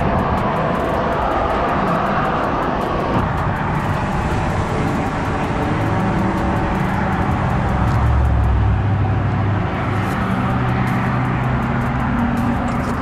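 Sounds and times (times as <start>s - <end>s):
road traffic noise: 0.0s - 13.0s
vehicle passing close: 0.0s - 13.0s.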